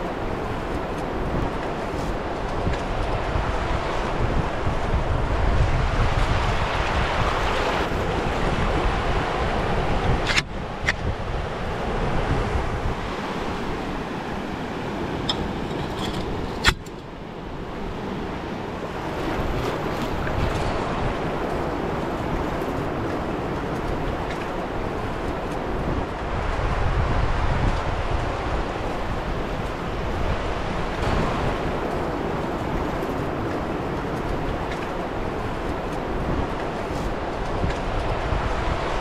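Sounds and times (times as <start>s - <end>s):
surf washing on sand: 0.0s - 39.0s
wind on microphone: 0.0s - 39.0s.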